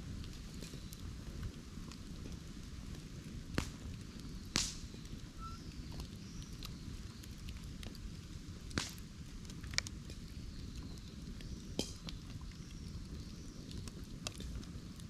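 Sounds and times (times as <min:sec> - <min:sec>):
fire crackling: 0:00.0 - 0:15.0
sharp pops of burning bamboo: 0:00.1 - 0:14.9.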